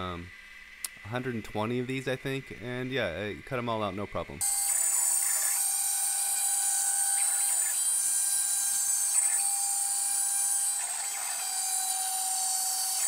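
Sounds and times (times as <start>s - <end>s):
router spindle cutting wood: 1.2s - 13.0s.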